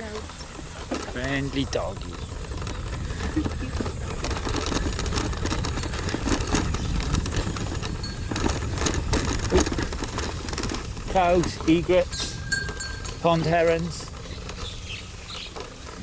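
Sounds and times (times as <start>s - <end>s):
bicycle rolling on dirt road: 0.0s - 16.0s
rattles and knocks: 0.0s - 16.0s.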